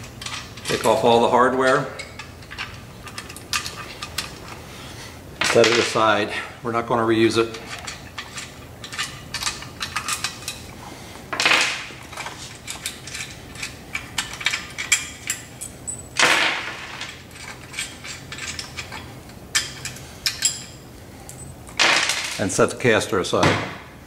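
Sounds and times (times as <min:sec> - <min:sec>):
metal parts clinking and rattling: 0:00.0 - 0:04.6, 0:05.4 - 0:06.2, 0:07.4 - 0:22.5.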